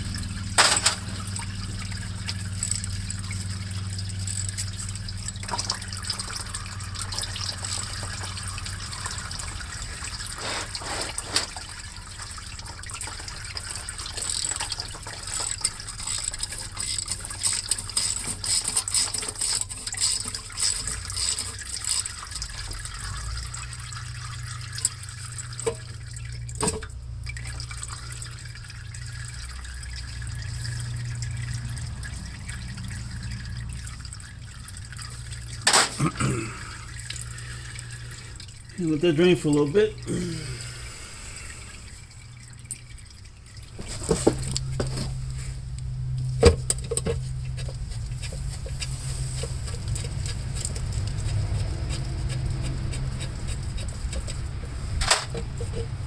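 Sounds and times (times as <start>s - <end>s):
steady low hum: 0.0s - 10.8s, 20.9s - 56.0s
fluid pouring and splashing: 0.0s - 56.0s.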